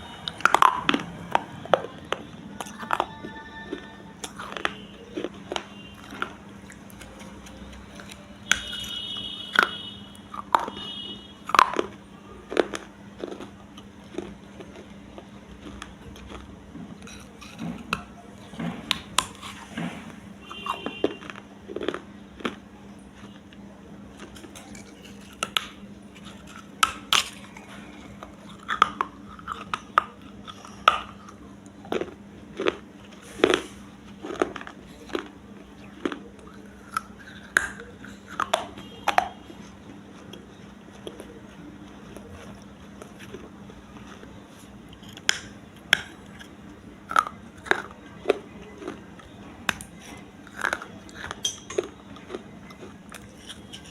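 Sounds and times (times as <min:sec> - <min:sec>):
clay pot crunching: 0:00.0 - 0:53.9
faint steady hum: 0:00.0 - 0:53.9.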